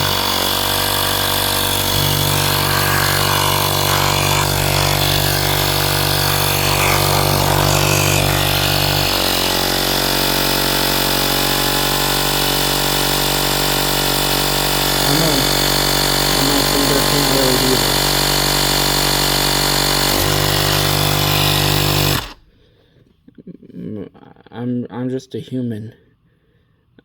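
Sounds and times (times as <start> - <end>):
air compressor running: 0.0 - 22.5.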